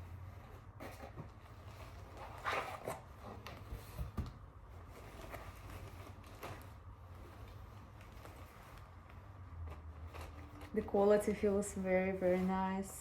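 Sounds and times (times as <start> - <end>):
packaging and fabric rustling: 0.0 - 13.0.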